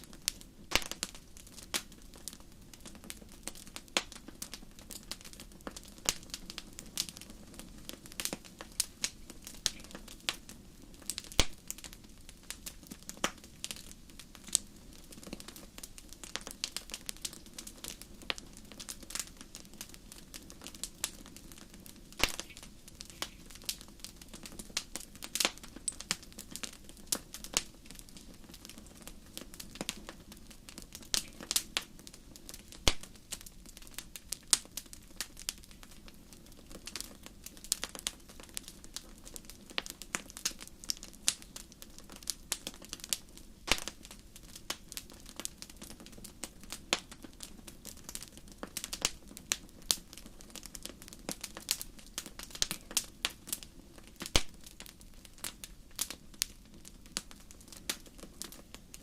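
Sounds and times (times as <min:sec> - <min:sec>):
campfire pops and snaps: 0:00.0 - 0:59.0
low rush of burning fire: 0:00.0 - 0:59.0.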